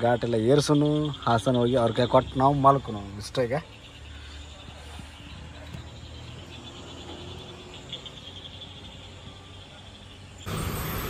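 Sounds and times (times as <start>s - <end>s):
frogs and insects chirping: 0.0s - 11.0s.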